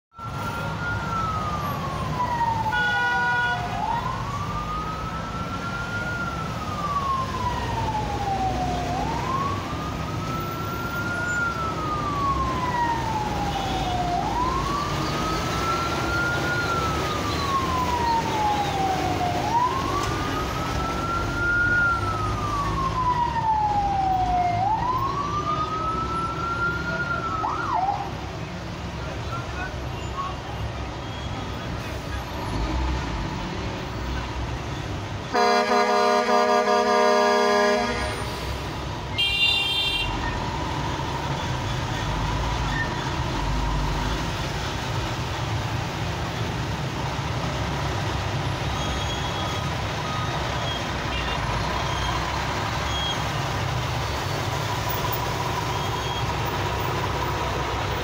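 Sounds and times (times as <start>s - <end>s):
ambulance siren wailing: 0.1s - 58.0s
idling traffic rumble: 0.1s - 58.0s.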